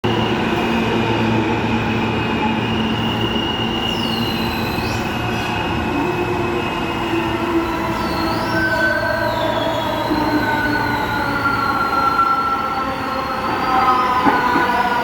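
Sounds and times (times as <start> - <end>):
subway train rumble: 0.0 - 15.0
high brake squeal: 0.1 - 15.0.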